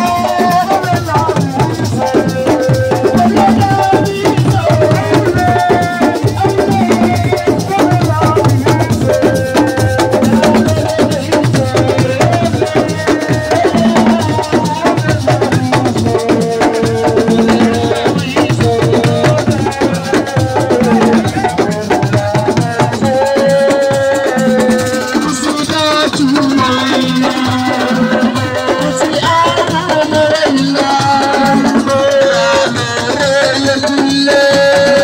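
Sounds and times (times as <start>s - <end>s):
fast dense drumming: 0.0s - 35.0s
held melody line: 0.0s - 35.0s.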